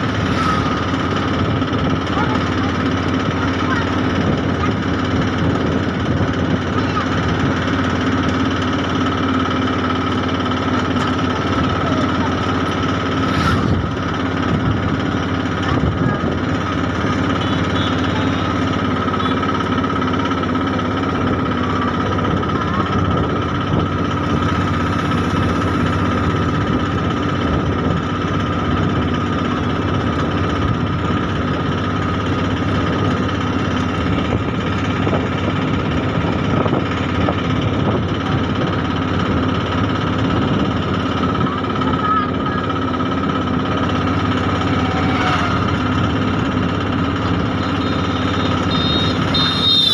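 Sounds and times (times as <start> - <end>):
train rumble and hum: 0.0 - 49.9.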